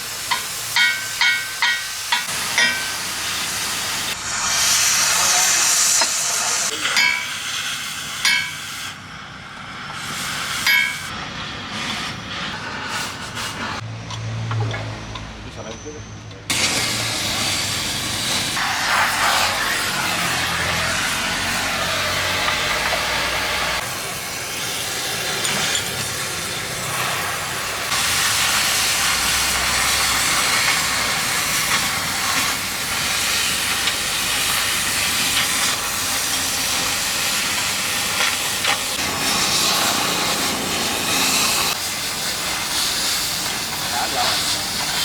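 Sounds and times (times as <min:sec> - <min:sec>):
cutting torch hissing: 0:00.0 - 0:13.8, 0:16.5 - 0:45.0.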